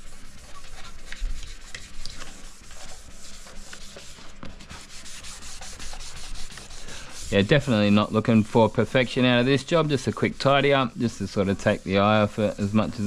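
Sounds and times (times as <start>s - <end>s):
sanding pad rubbing strokes: 0.0s - 13.0s.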